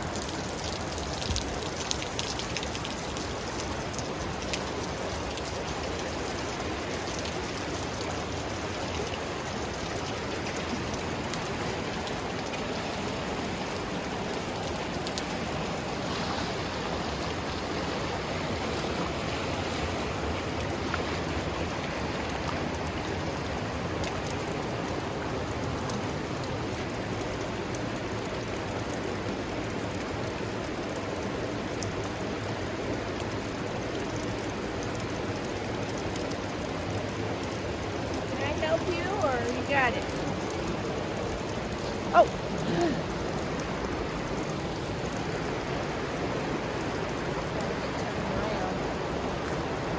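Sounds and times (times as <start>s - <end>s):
creek water rushing over rocks: 0.0s - 49.9s.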